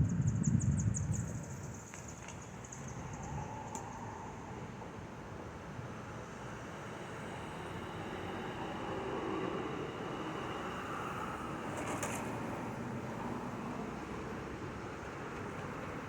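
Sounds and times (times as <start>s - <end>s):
steady noisy background: 0.0s - 16.0s.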